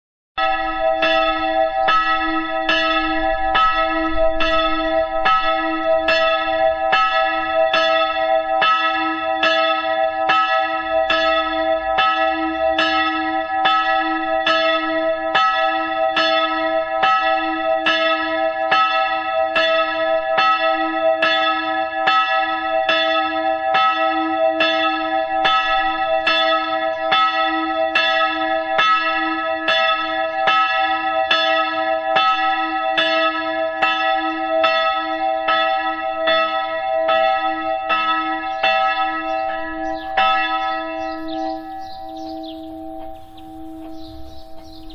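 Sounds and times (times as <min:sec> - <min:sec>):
church bells ringing: 0:00.4 - 0:44.9.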